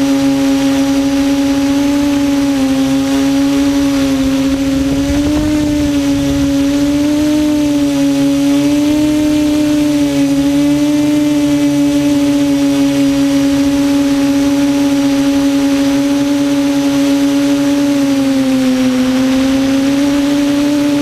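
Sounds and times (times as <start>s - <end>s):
quadcopter motors humming: 0.0s - 21.0s.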